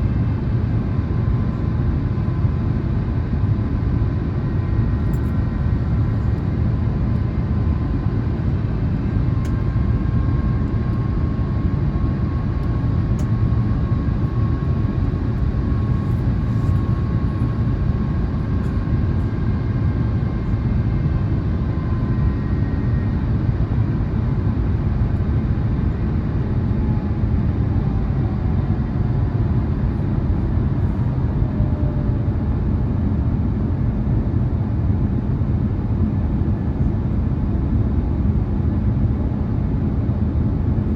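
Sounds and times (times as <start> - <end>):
airflow and jet engine rumble: 0.0 - 40.9.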